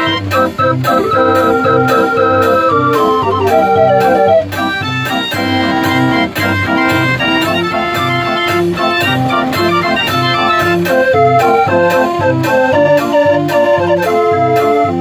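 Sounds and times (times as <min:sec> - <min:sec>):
fairground organ playing: 0:00.0 - 0:15.0.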